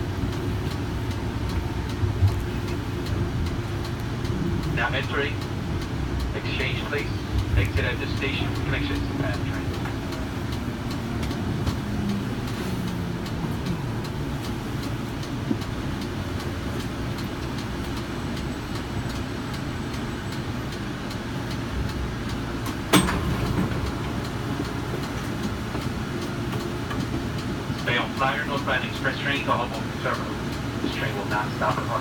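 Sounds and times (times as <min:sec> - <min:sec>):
tram hum: 0:00.0 - 0:32.0.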